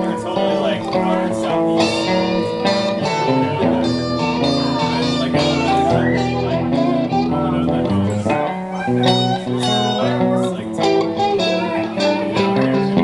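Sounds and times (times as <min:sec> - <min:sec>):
electric guitar playing blues: 0:00.0 - 0:13.0
harmonica notes bending: 0:00.0 - 0:13.0.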